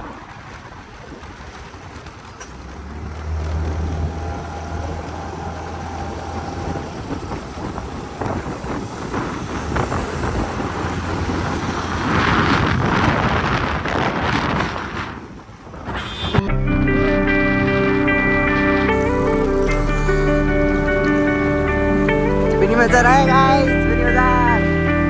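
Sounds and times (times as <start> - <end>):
wind noise on microphone: 0.0 - 25.0
vehicle engine running: 1.4 - 13.7, 16.4 - 25.0.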